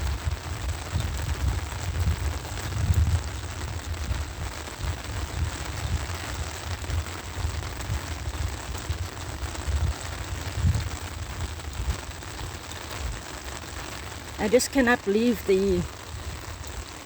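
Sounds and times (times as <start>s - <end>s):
rain on an umbrella: 0.0s - 17.0s.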